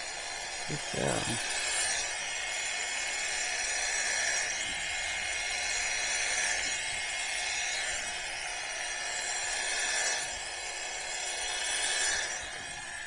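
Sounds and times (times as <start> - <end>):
electric clippers whining: 0.0 - 13.0.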